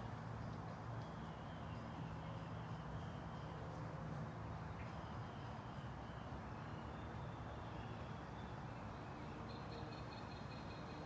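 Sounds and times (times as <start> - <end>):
birds singing faintly: 0.0 - 11.0.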